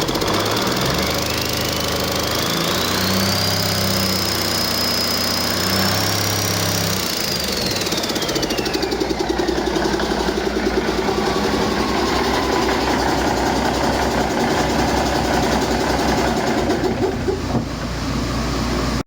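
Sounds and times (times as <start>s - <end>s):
diesel engine running: 0.0s - 19.0s
high engine whine: 0.0s - 19.0s.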